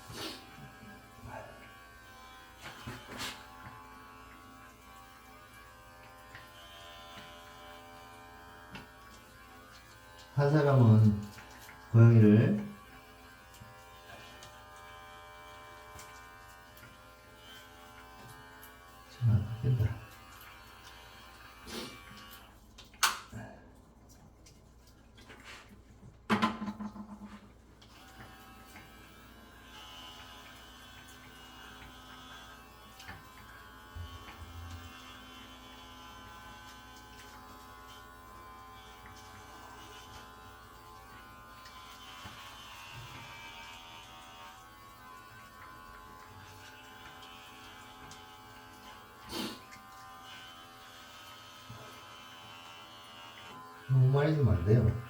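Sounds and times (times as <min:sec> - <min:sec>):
electric hair clippers running: 0:00.0 - 0:22.6, 0:27.9 - 0:55.0.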